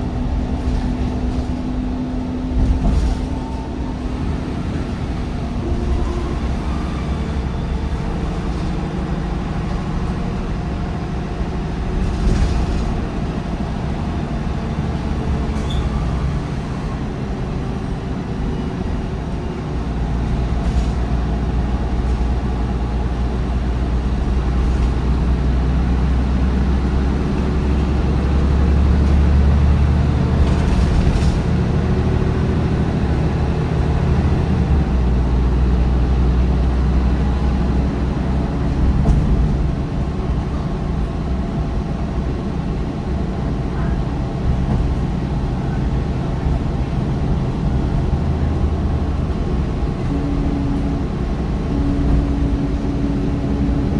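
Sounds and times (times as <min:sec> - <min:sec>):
diesel bus engine: 0:00.0 - 0:53.9.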